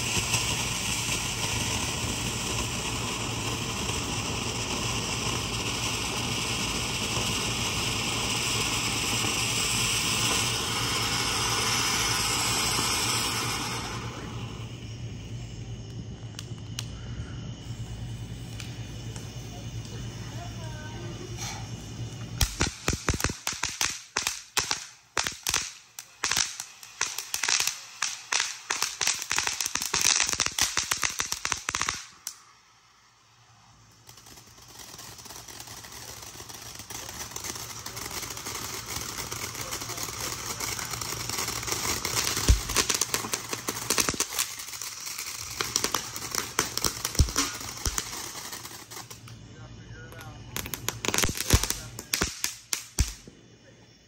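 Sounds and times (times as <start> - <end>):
firework crackling pops: 0.0 - 54.0
firework fountain hissing spray: 0.0 - 54.0.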